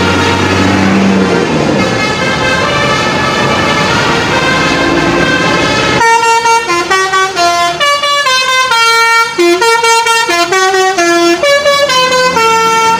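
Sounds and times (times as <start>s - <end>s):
multi-tone bus horn melody: 0.0s - 12.9s
road and engine noise: 0.0s - 12.9s.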